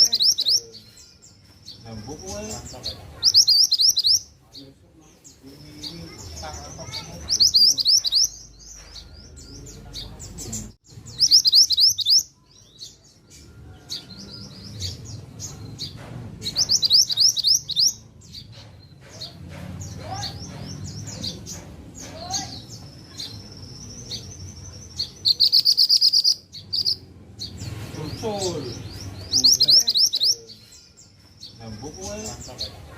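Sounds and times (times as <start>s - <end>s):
bird singing rapid chirps: 0.0s - 32.9s.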